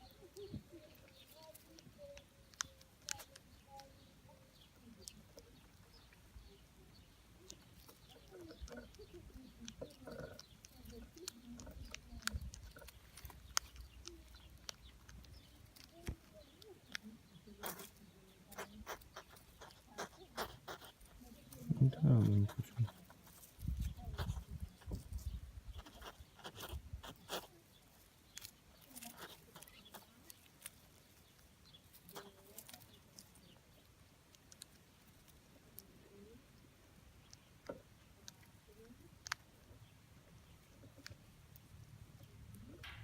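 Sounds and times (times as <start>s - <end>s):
hedgehog crunching food: 0.0s - 43.0s.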